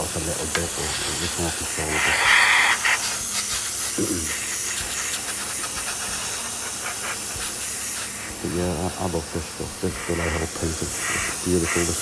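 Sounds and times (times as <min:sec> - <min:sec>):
airbrush hissing: 0:00.0 - 0:12.0.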